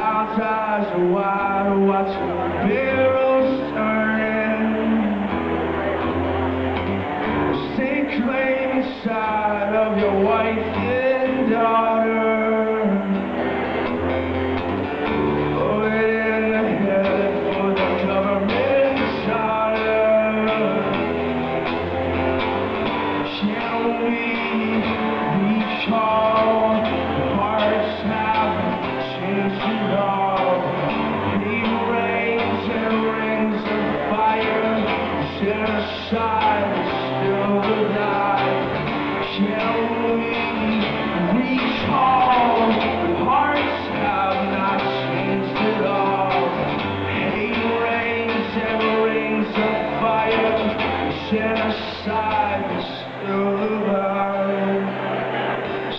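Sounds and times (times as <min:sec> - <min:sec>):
live rock guitar music: 0:00.0 - 0:55.9
person singing: 0:00.0 - 0:55.9.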